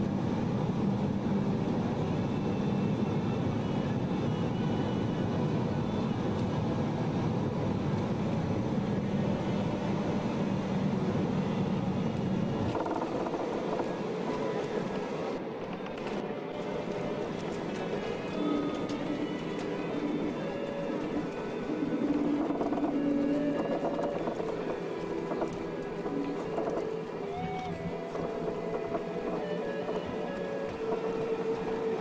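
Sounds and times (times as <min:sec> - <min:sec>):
airplane cabin engine rumble: 0:00.0 - 0:32.0.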